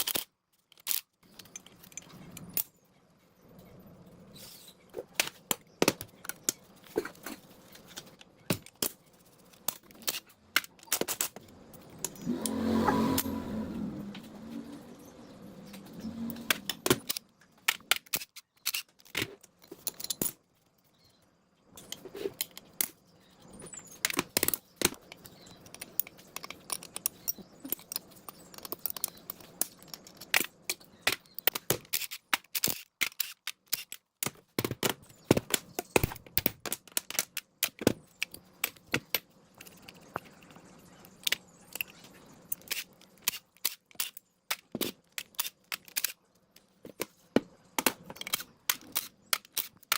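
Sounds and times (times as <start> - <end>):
tools clicking and clinking on parts: 0.0 - 2.8, 4.9 - 12.6, 15.6 - 20.9, 23.9 - 49.9.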